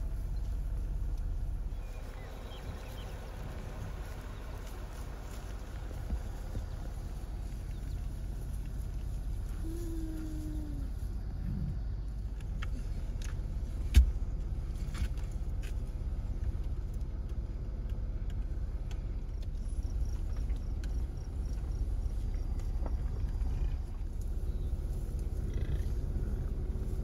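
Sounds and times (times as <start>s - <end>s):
vehicle cabin rumble: 0.0s - 27.0s.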